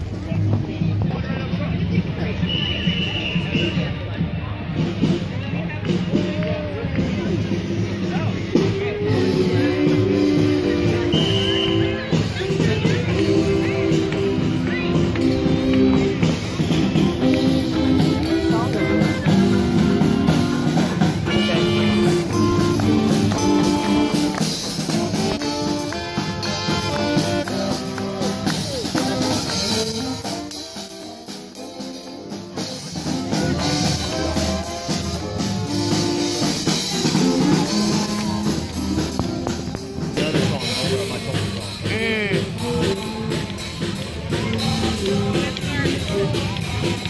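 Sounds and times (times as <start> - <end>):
marching string band playing: 0.0 - 47.0
saxophones and horns: 0.0 - 47.0.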